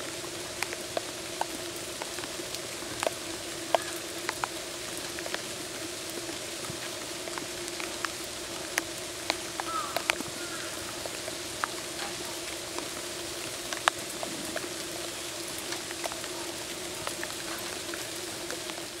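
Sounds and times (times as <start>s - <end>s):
steady rain falling: 0.0s - 19.0s
sharp drips and taps: 0.6s - 19.0s.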